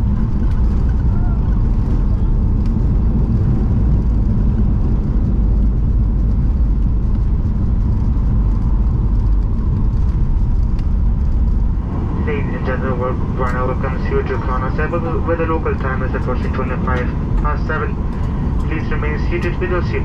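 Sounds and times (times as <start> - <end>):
jet engine low rumble: 0.0 - 20.0.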